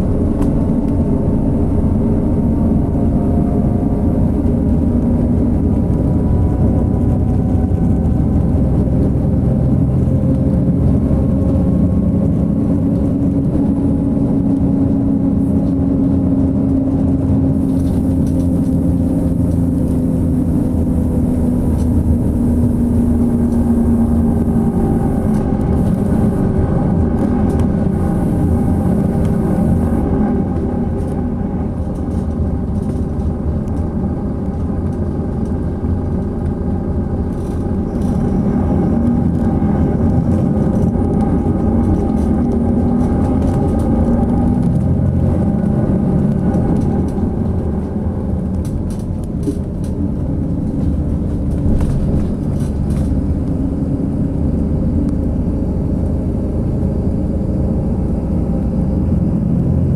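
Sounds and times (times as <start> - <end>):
diesel engine drone: 0.0 - 59.9
tyre and road rumble: 0.0 - 59.9.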